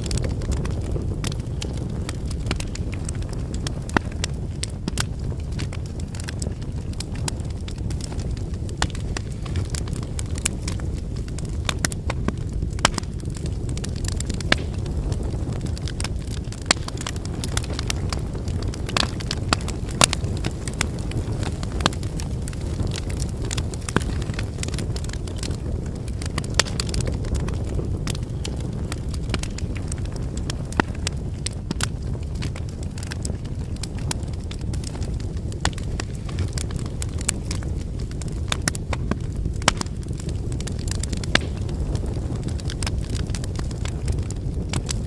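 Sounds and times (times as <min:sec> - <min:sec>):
firewood crackling and popping: 0:00.0 - 0:45.0
rush of flames: 0:00.0 - 0:45.0.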